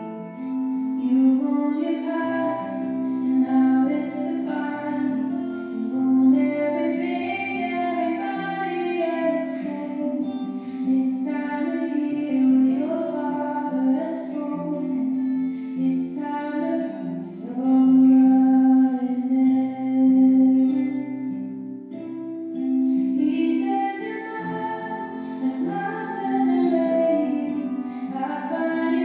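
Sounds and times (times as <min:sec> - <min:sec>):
woman singing slow melody: 0:00.0 - 0:29.0.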